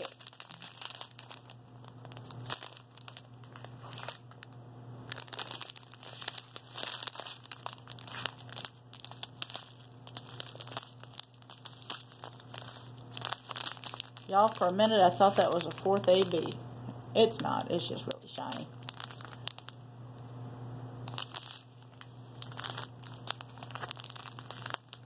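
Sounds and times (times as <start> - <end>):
plastic zip bags crinkling: 0.0 - 4.5, 5.1 - 16.6, 17.9 - 19.8, 21.0 - 25.0.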